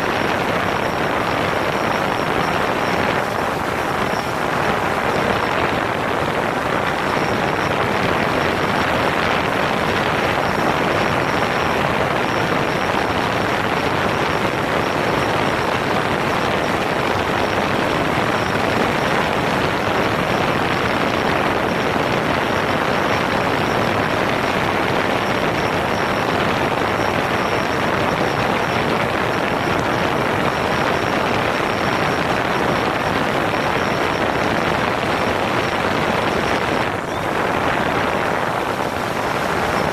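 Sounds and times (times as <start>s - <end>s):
drone propellers and motors: 0.0s - 39.9s.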